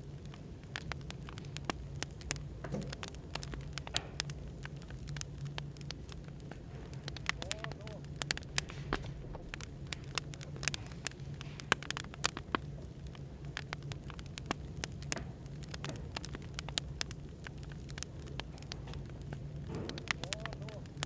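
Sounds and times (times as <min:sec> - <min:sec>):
firewood crackling and popping: 0:00.0 - 0:21.0
low background hum: 0:00.0 - 0:21.0.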